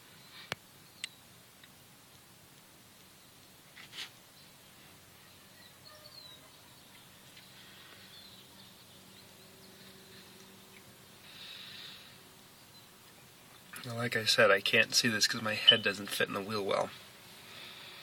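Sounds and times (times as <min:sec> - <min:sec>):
faint background noise: 0:00.0 - 0:18.0
soft hiss: 0:00.0 - 0:18.0.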